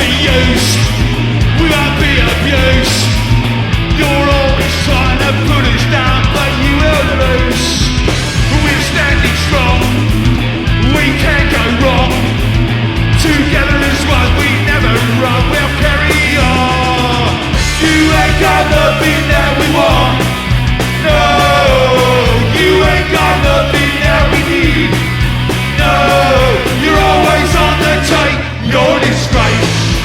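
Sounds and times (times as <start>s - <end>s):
person singing lead vocal: 0.0s - 12.4s, 13.1s - 25.1s, 25.7s - 30.0s
bass guitar: 0.0s - 30.0s
distorted electric guitars: 0.0s - 30.0s
drums: 0.0s - 30.0s.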